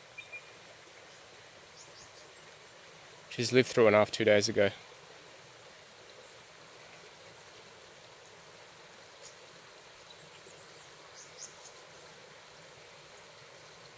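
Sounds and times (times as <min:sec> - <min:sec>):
insects: 0:00.0 - 0:13.9.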